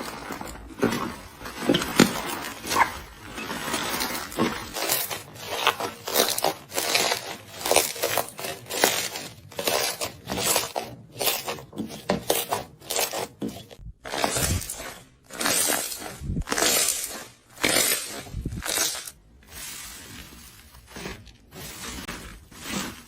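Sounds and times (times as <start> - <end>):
slime squelching: 0.0 - 23.0.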